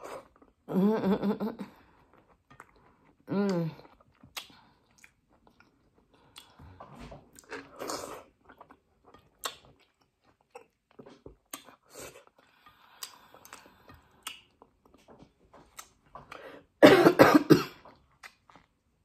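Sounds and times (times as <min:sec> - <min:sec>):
person chewing wet smacks: 0:02.1 - 0:16.5, 0:17.8 - 0:18.8.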